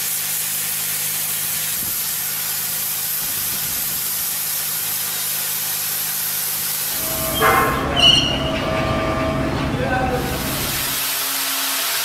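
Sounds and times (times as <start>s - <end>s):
pressure washer spray hiss: 0.0s - 8.0s, 10.2s - 12.0s.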